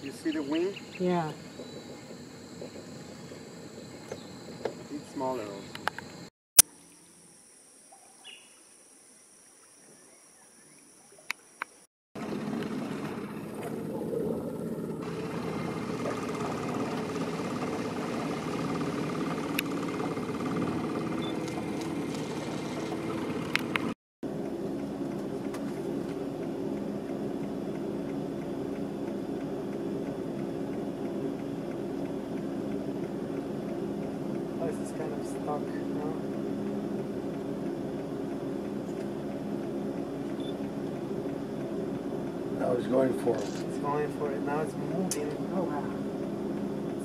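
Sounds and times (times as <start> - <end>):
boat motor droning: 0.0 - 6.3, 12.2 - 47.0
high steady whine: 0.0 - 6.3, 12.2 - 47.0
outdoor ambience: 0.0 - 47.0.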